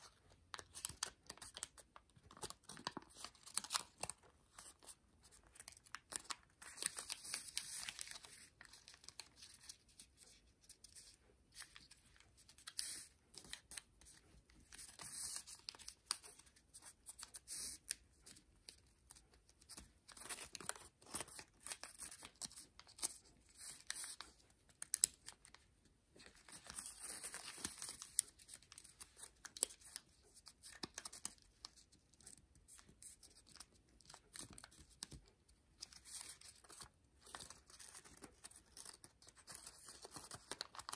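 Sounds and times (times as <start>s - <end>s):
paper rustling and crinkling: 0.0s - 25.6s, 26.2s - 40.9s.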